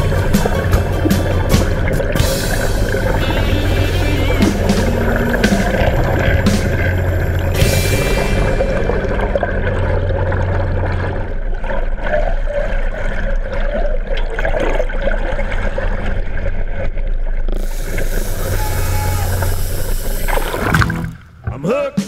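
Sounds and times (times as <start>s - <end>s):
boat engine humming: 0.0s - 14.0s, 15.2s - 22.0s
water sloshing and splashing: 0.0s - 18.1s, 19.3s - 21.8s.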